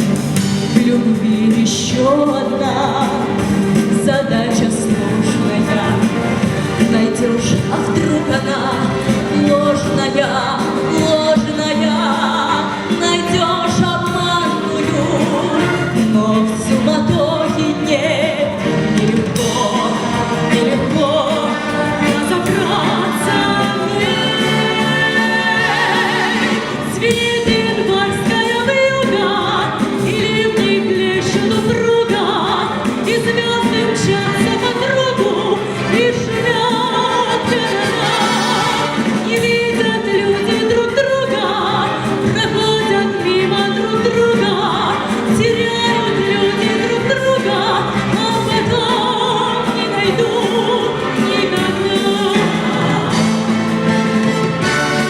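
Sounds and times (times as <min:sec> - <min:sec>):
woman singing with vibrato: 0:00.0 - 0:54.2
instrumental accompaniment: 0:00.0 - 0:55.0.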